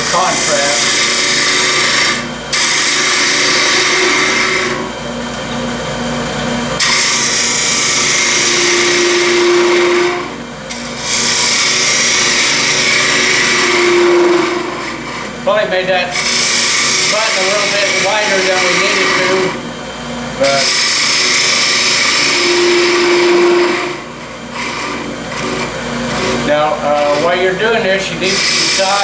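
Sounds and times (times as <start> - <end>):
lathe tool cutting hiss: 0.0 - 5.2, 6.0 - 29.0
wood lathe hum: 0.0 - 29.0.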